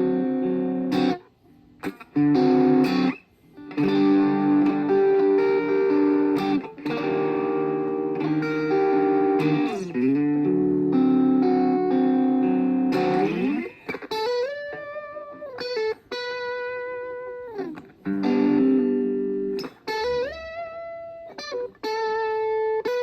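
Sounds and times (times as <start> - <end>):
electric guitar chords: 0.0 - 23.0.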